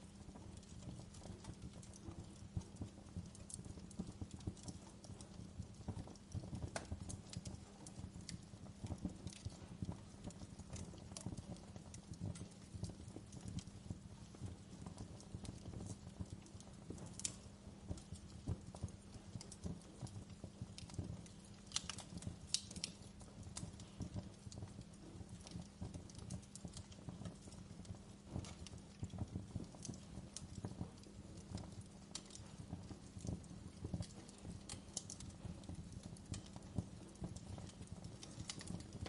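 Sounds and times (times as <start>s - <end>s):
fire popping: 0.0s - 39.0s
wood fire crackling: 0.0s - 39.0s.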